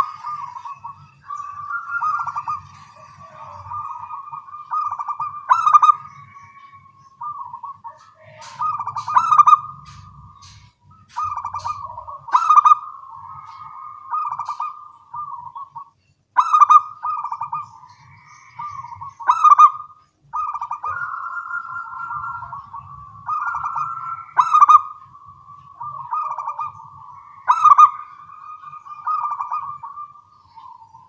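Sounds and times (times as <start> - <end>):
doves cooing: 0.0 - 31.0.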